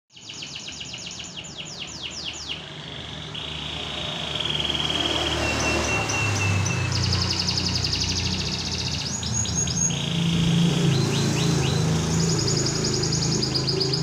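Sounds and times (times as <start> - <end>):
canary singing: 0.1 - 14.0.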